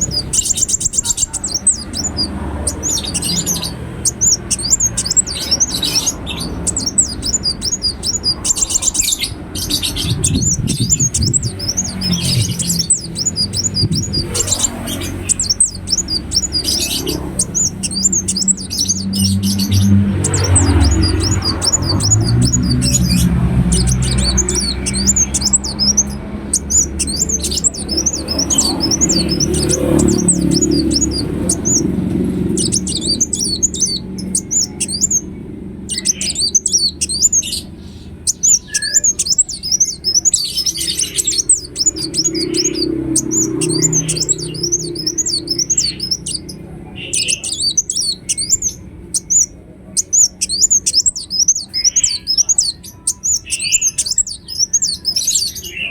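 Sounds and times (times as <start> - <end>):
bird twittering song: 0.0 - 55.9.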